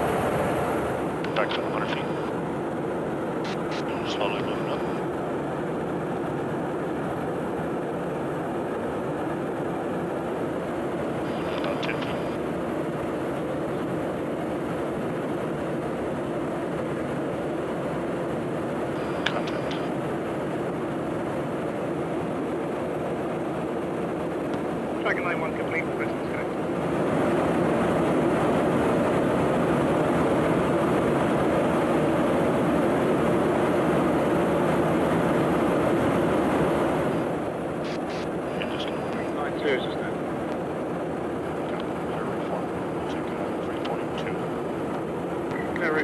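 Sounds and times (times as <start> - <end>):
aircraft cabin airflow and jet drone: 0.0 - 46.0.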